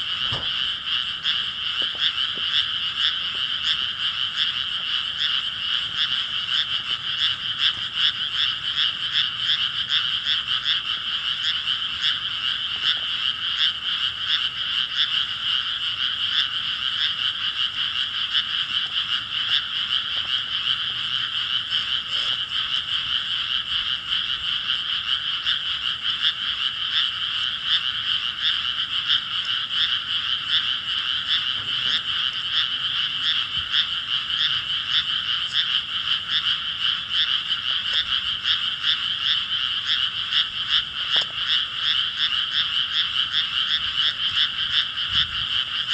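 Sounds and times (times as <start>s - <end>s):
frogs croaking: 0.0s - 45.9s.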